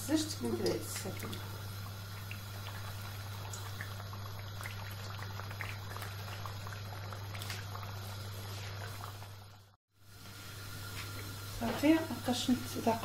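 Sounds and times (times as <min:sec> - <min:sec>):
patties sizzling in hot oil: 0:00.0 - 0:13.0.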